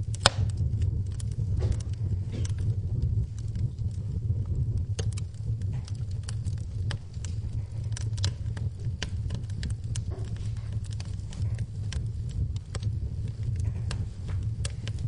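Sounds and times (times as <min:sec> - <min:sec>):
flames rumbling: 0:00.0 - 0:15.0
logs crackling and popping: 0:00.0 - 0:15.0.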